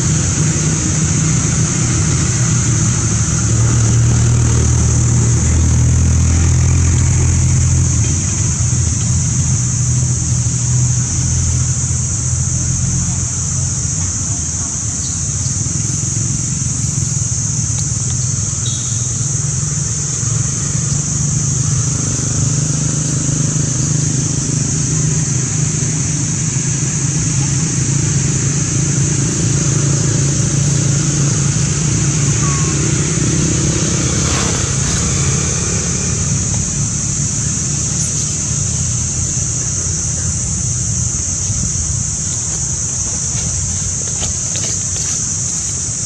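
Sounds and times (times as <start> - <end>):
low motor hum of traffic: 0.0 - 46.0.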